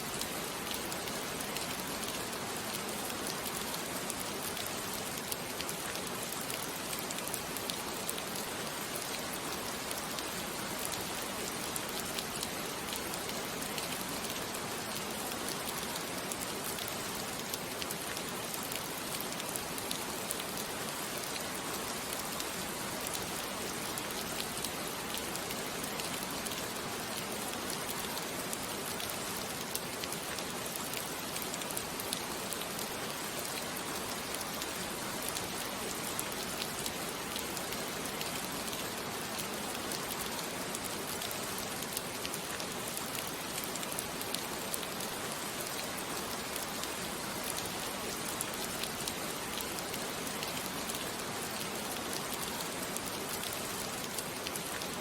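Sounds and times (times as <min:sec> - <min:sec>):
steady rain falling: 0:00.0 - 0:55.0
rain drop ticks: 0:00.1 - 0:55.0.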